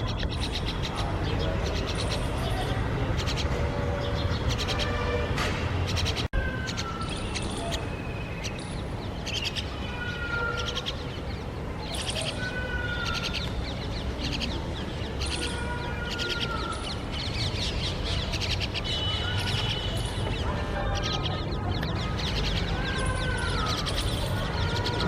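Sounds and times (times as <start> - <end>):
birds harsh rasping chatter: 0.0 - 25.0.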